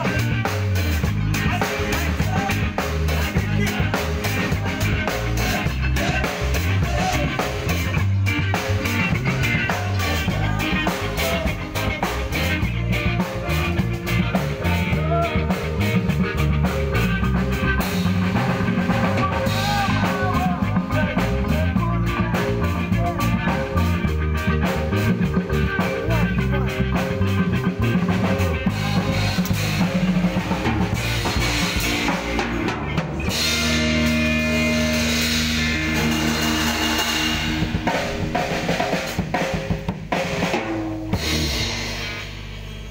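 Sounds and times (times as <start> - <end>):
drum kit beat: 0.0 - 42.9
live band playing: 0.0 - 42.9.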